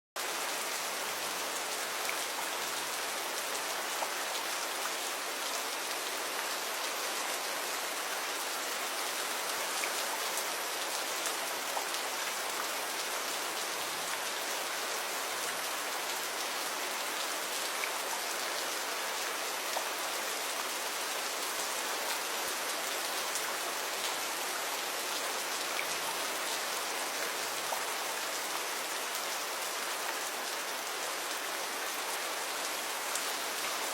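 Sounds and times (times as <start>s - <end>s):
gentle rain falling: 0.2s - 33.9s.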